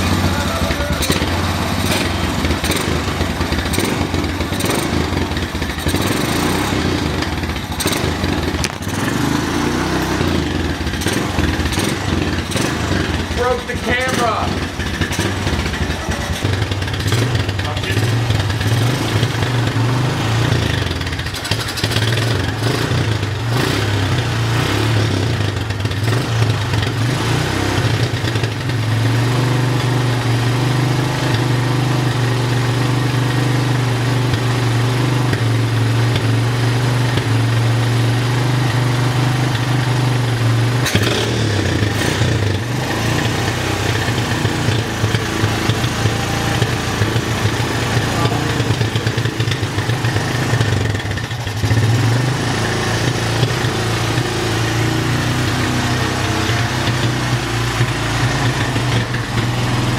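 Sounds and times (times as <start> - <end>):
atv engine idling: 0.0 - 59.9.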